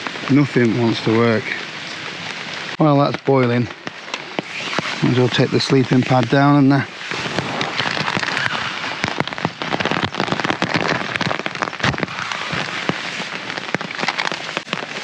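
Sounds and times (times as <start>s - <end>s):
heavy rain on a tarp: 0.0s - 15.0s.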